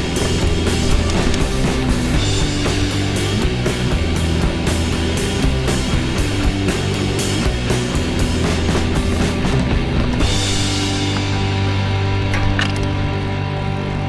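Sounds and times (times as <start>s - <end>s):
bass: 0.0s - 14.0s
distorted guitar: 0.0s - 14.0s
driving drum beat: 0.0s - 14.0s
rock music: 0.0s - 14.0s.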